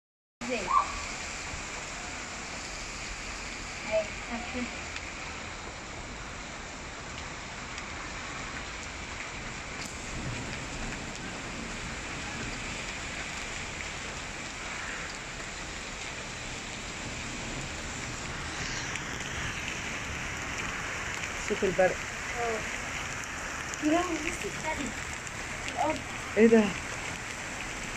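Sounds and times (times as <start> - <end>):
heavy rain and hail pelting: 0.4 - 27.9.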